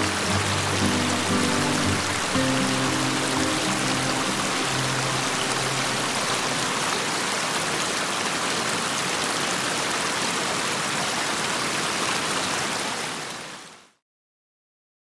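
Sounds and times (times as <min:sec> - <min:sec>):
waterfall over rocks: 0:00.0 - 0:14.0.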